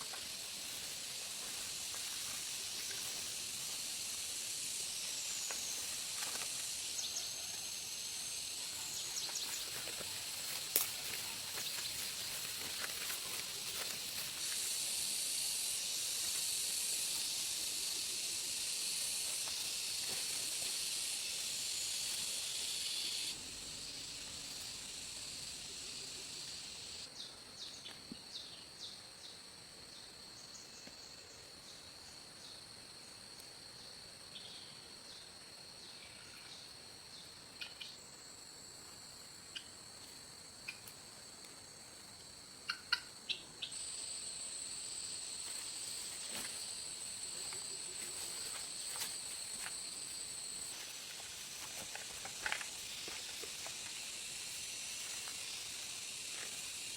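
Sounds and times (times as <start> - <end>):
insect drone: 0.0 - 56.9.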